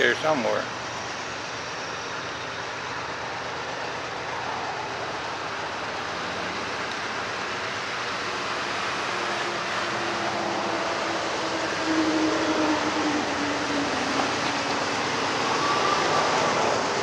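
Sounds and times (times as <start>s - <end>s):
diesel locomotive engines: 0.0s - 17.0s.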